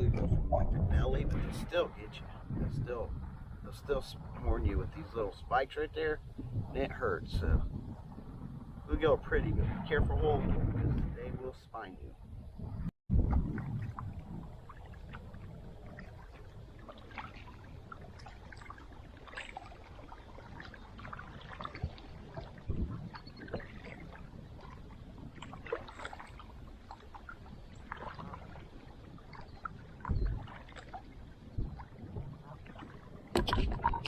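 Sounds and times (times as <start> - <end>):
low wind rumble: 0.0 - 34.0
water slapping boat hull: 0.0 - 34.0.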